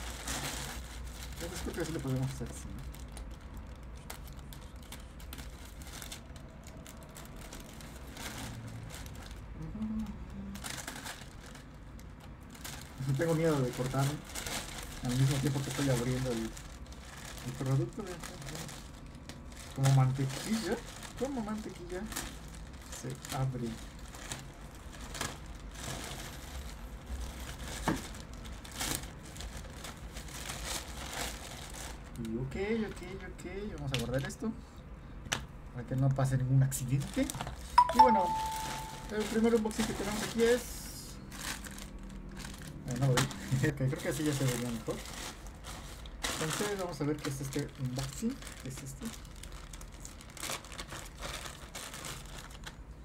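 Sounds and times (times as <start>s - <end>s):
plastic bag crinkling: 0.0s - 9.6s, 10.5s - 33.2s, 36.6s - 53.0s.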